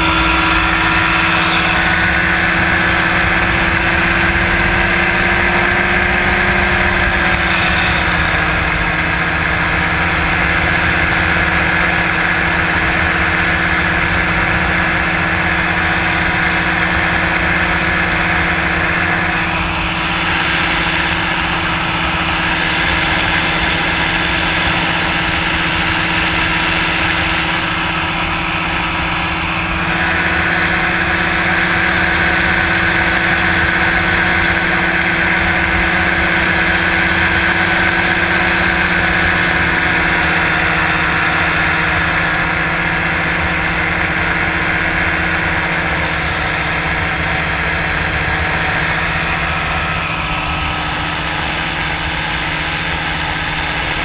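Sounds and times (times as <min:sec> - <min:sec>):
engine and propeller droning: 0:00.0 - 0:54.0.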